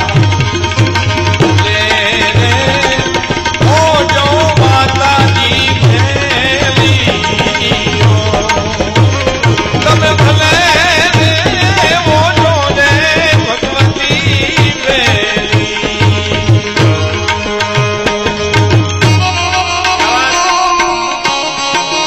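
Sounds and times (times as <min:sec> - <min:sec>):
hand drum beat: 0:00.0 - 0:21.0
ornamented melody line: 0:00.0 - 0:22.0.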